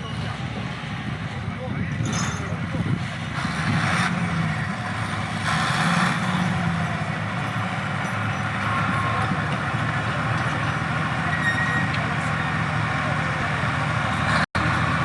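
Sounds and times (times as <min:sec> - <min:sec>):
heavy diesel engine rumbling: 0:00.0 - 0:15.0.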